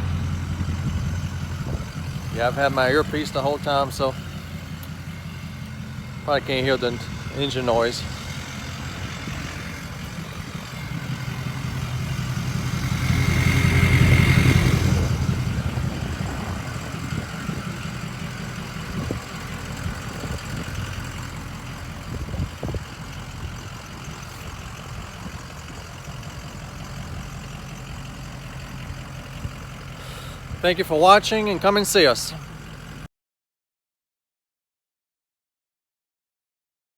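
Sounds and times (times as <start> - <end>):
diesel engine running: 0.0 - 33.1.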